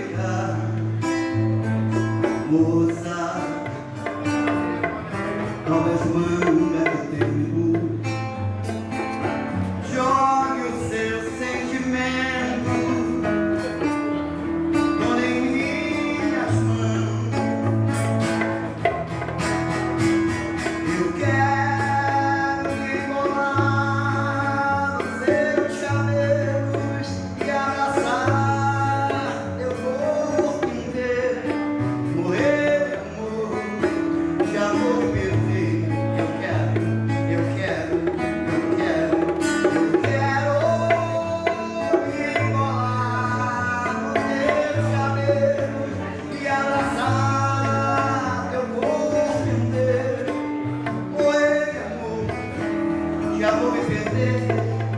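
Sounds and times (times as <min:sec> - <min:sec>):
acoustic guitar playing: 0:00.0 - 0:54.9.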